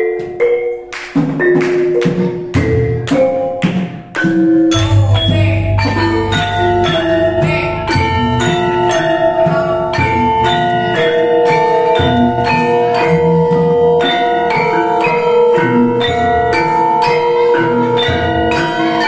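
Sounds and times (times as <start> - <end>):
metallophones struck with mallets: 0.0 - 19.0.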